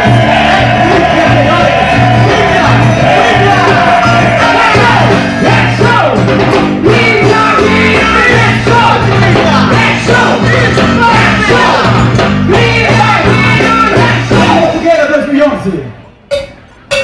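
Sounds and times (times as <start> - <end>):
repeating bass line: 0.0 - 14.8
band music with singing: 0.0 - 17.0.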